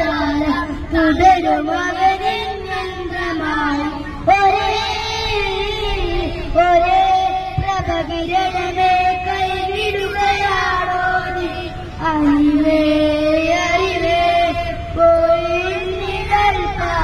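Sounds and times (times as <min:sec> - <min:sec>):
bus rumble: 0:00.0 - 0:17.0
children singing: 0:00.0 - 0:17.0.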